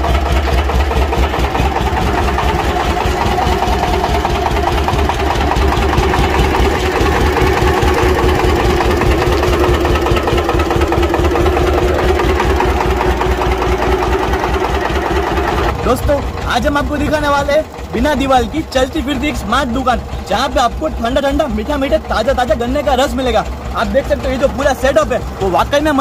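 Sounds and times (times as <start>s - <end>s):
engine running with pulsing rumble: 0.0s - 26.0s.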